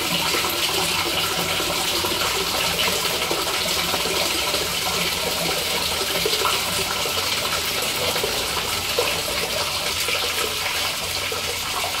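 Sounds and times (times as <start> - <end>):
water rushing in a drain channel: 0.0 - 12.0.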